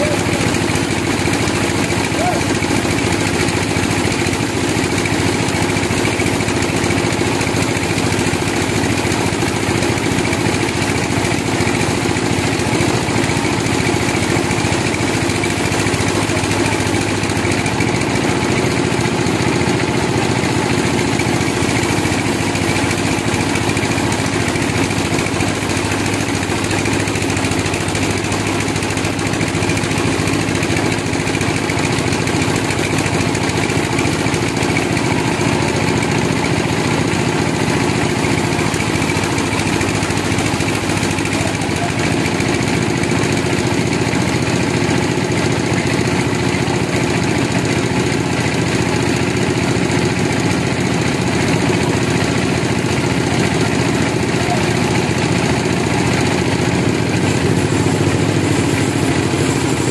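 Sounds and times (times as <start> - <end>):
band sawmill machine drone: 0.0 - 59.9.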